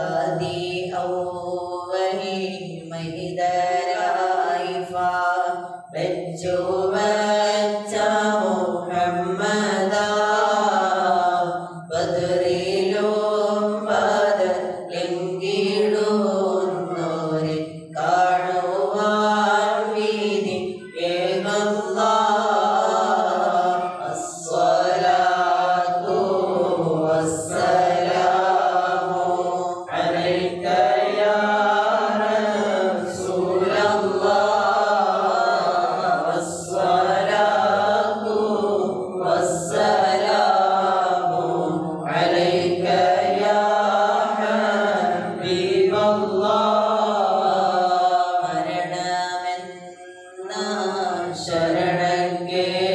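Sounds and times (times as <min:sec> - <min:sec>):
men chanting: 0:00.0 - 0:52.9.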